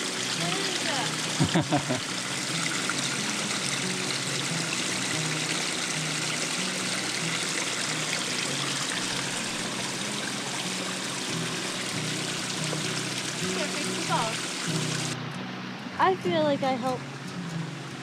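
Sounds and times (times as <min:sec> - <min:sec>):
waterfall rushing and splashing: 0:00.0 - 0:15.2.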